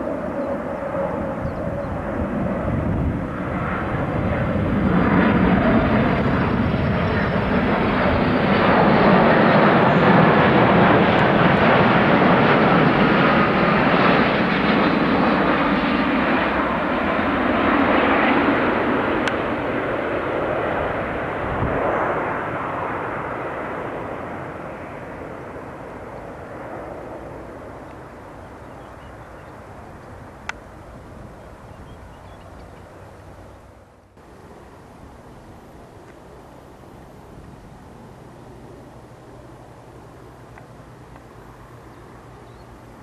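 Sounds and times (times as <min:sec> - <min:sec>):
jet engines passing overhead: 0:00.0 - 0:43.0.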